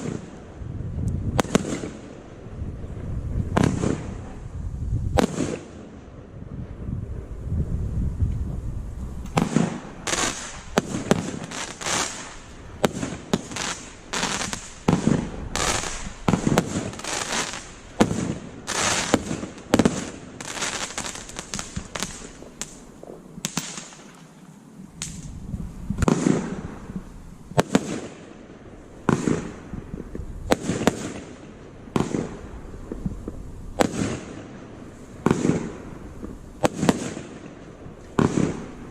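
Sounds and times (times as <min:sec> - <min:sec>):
firework cake firing volley: 0:00.0 - 0:07.3, 0:09.1 - 0:38.9.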